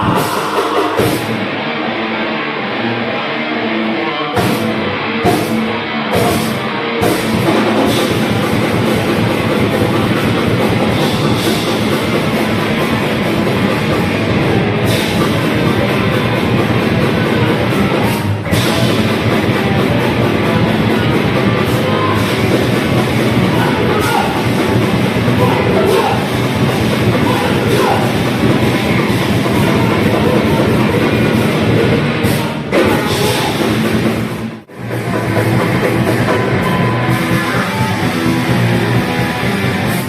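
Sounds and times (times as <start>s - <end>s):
grindcore band playing: 0.0s - 40.0s
drum crashes: 6.2s - 40.0s.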